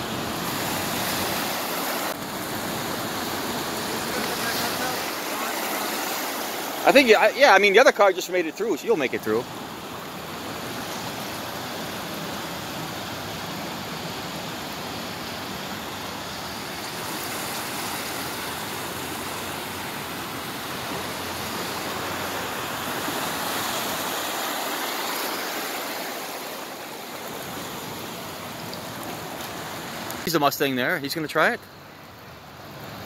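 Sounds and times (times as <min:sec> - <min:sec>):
cars driving through water: 0:00.0 - 0:33.0
floodwater rushing and splashing: 0:00.0 - 0:33.0.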